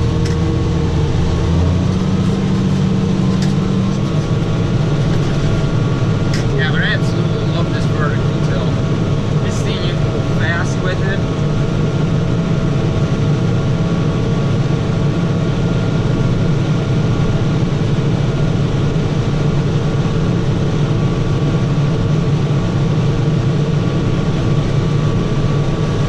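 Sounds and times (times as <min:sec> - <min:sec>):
tractor engine running under load: 0:00.0 - 0:26.0.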